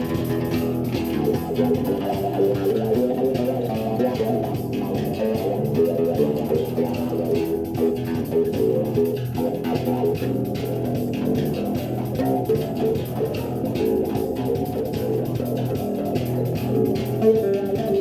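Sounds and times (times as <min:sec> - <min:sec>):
bass guitar plucked notes: 0:00.0 - 0:18.0.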